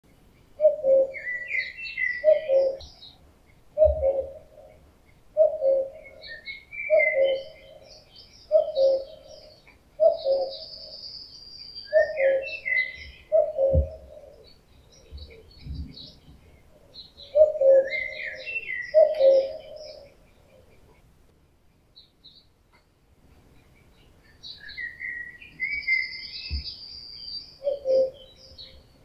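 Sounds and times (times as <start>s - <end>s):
songbirds twittering: 0.1s - 29.0s
cuckoo calling: 0.6s - 21.1s, 24.2s - 29.0s.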